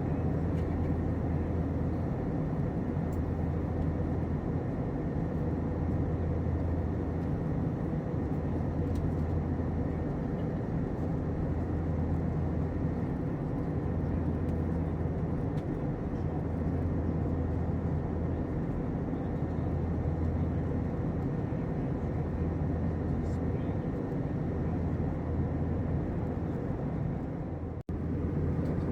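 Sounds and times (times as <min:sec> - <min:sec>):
airplane cabin engine rush: 0:00.0 - 0:28.9.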